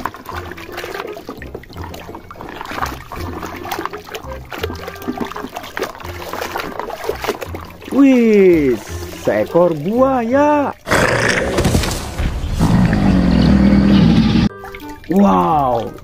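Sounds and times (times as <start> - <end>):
water splashing in a tub: 0.0 - 13.5, 14.5 - 16.0.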